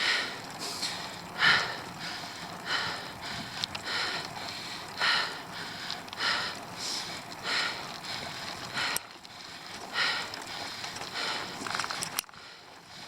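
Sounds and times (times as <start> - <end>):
heavy laboured breathing: 0.0 - 13.0.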